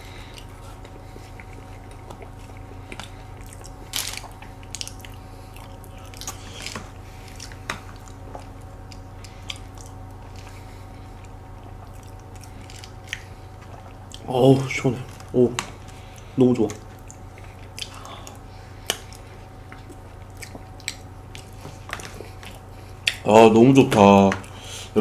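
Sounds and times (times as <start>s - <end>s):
soft chewing of cake: 0.0s - 25.0s
steady low hum: 0.0s - 25.0s.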